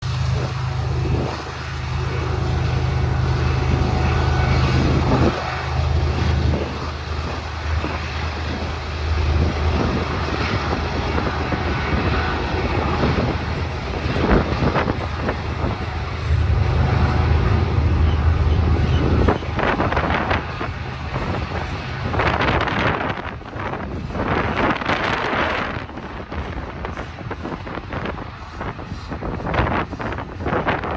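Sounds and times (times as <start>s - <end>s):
diesel locomotives rumbling: 0.0s - 30.9s
wind buffeting microphone: 0.0s - 30.9s.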